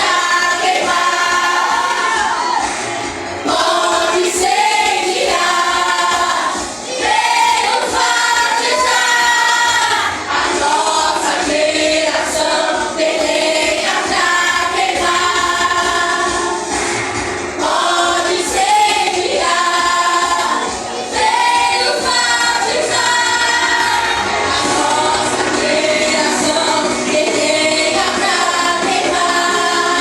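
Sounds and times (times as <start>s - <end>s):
group singing praise song: 0.0s - 30.0s
light musical accompaniment: 0.0s - 30.0s.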